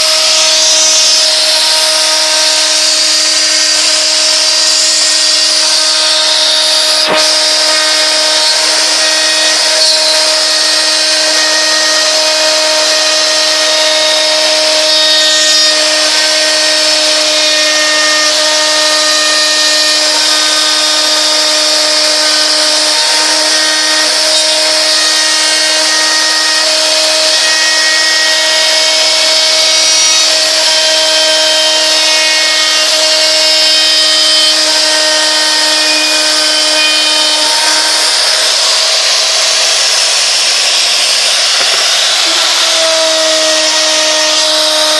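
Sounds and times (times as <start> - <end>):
machine spindle whining while cutting: 0.0 - 44.9.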